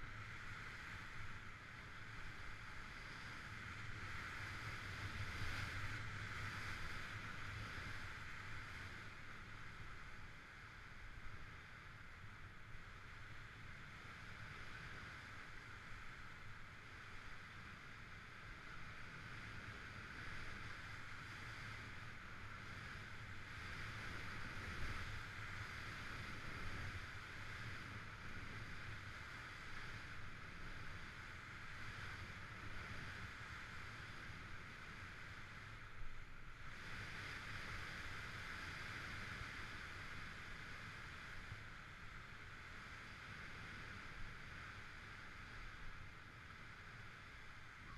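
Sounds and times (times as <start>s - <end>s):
wind rumble on microphone: 0.0s - 47.9s.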